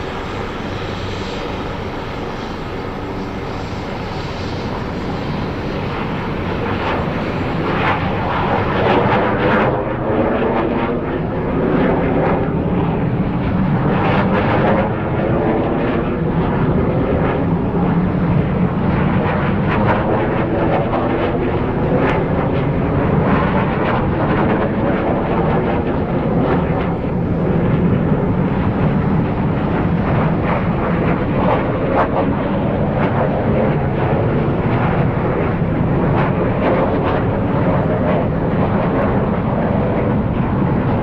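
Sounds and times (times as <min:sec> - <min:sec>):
jet engines taking off: 0:00.0 - 0:41.0.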